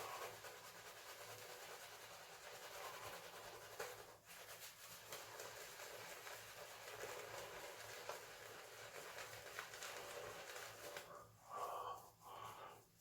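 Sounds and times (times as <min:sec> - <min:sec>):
shaving brush swishing lather: 0:00.0 - 0:13.0.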